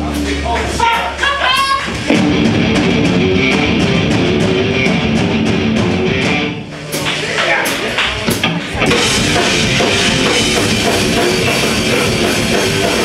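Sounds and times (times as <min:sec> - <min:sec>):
live metal band playing: 0:00.0 - 0:06.9, 0:07.7 - 0:13.0.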